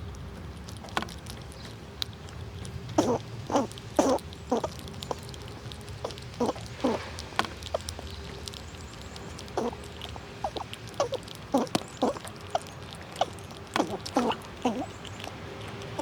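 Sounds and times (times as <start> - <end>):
squirrels cracking nut shells: 0.0 - 16.0.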